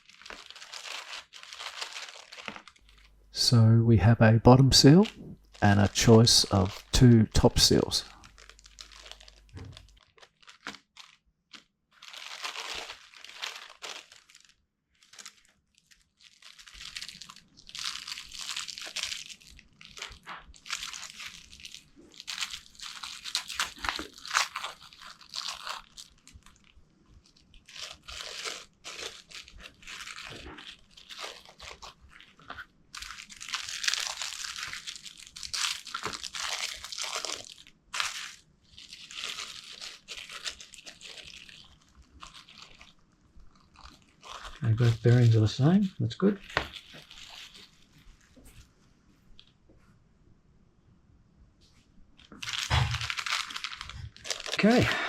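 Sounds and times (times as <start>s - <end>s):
plastic packaging crinkling: 0.0s - 3.6s, 4.5s - 48.7s, 52.2s - 55.0s.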